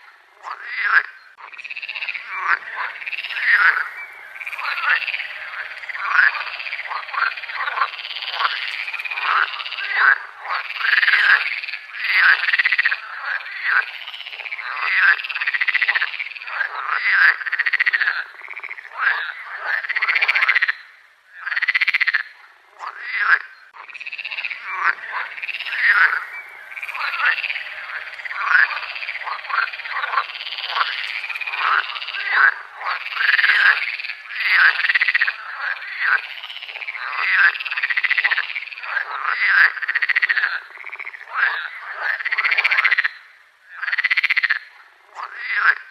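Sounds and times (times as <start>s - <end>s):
chorus of frogs calling: 0.0s - 45.9s.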